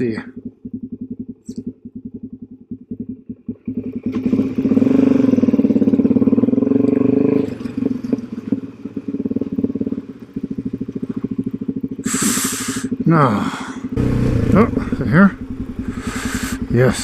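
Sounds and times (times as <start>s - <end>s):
motorcycle engine pulling away: 0.0s - 13.3s, 13.9s - 17.0s.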